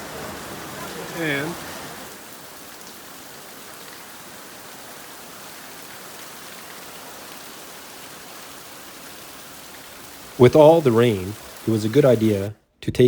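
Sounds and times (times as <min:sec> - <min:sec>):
rain pattering on hard surfaces: 0:00.0 - 0:12.5.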